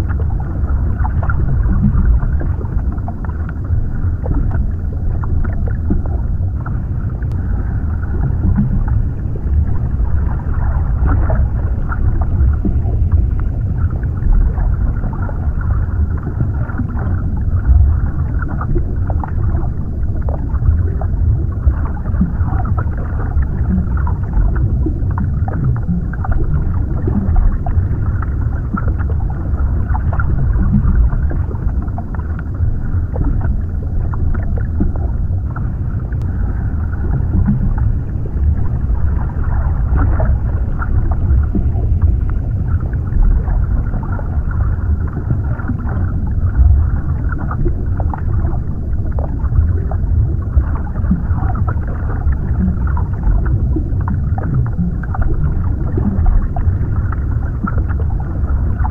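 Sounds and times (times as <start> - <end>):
muffled underwater rumble: 0.0 - 58.9.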